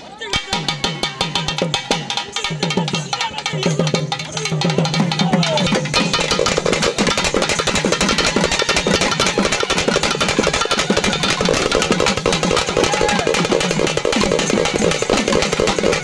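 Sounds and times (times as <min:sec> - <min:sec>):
barrel drums beaten fast: 0:00.3 - 0:16.0.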